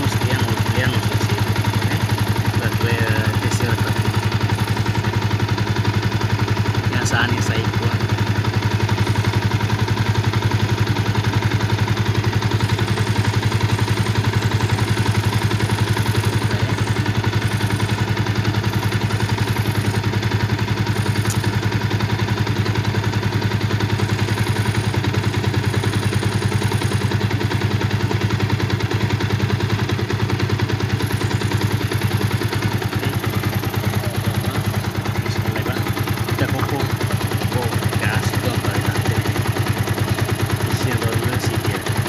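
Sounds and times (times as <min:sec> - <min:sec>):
motorcycle engine idling with ticking: 0:00.0 - 0:42.0.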